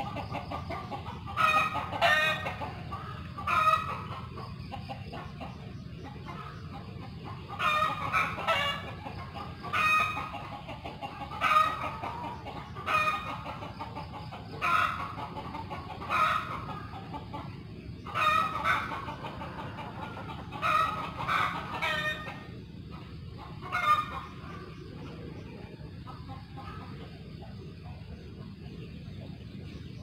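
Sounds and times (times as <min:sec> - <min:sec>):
chicken clucking: 0:00.0 - 0:30.0
low background rumble: 0:00.0 - 0:30.0.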